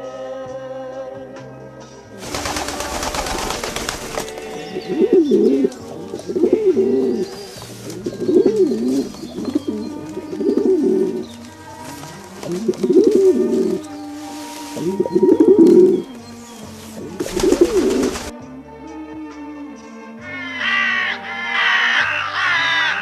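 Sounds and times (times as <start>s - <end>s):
pigeon cooing: 2.2s - 18.3s, 20.2s - 23.0s.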